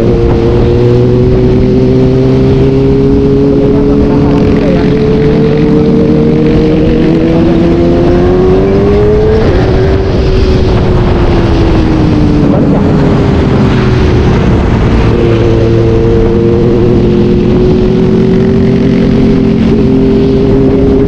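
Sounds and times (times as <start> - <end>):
high-revving vehicle engine: 0.0 - 21.0.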